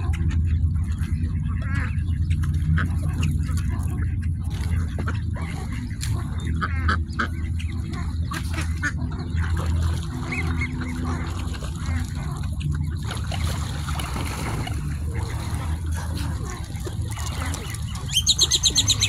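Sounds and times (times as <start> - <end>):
ducks calling: 0.0 - 19.0
steady low rumble: 0.0 - 19.0.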